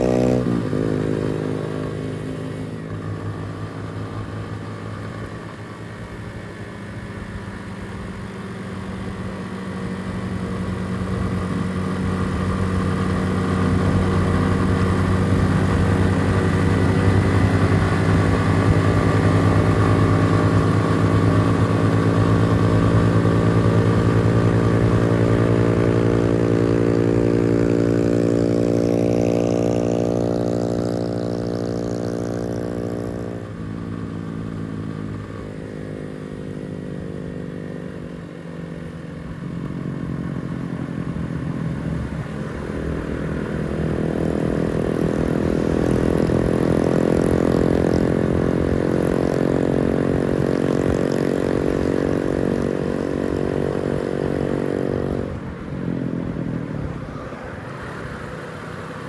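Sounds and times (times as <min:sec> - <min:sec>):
motorcycle engine running: 0:00.0 - 0:57.2.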